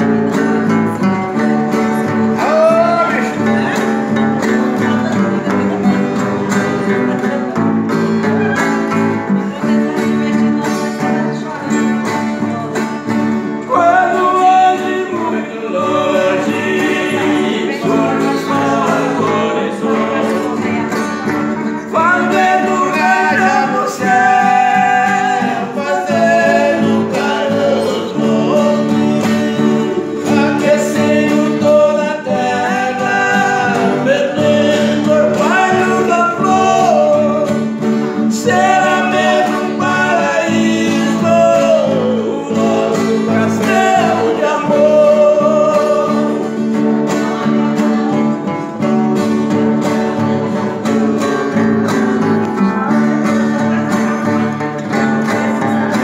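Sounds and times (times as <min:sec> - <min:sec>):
man singing: 0:00.0 - 0:48.8
acoustic guitars playing: 0:00.0 - 0:56.0.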